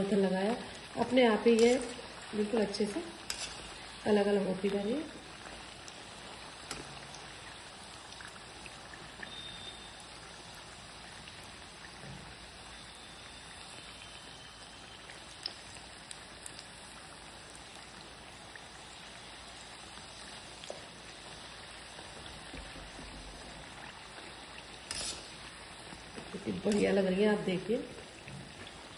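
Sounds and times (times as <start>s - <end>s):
food sizzling in hot oil: 0.0s - 28.9s.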